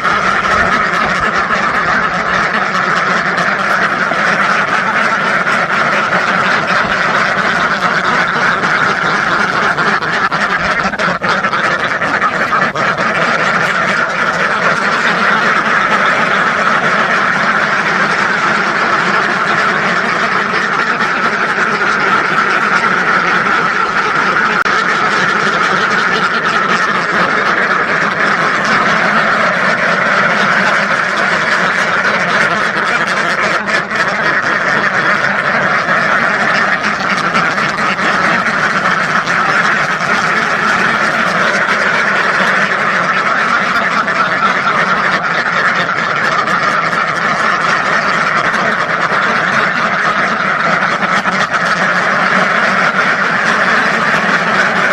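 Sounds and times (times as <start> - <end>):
flock of ducks quacking: 0.0 - 54.9.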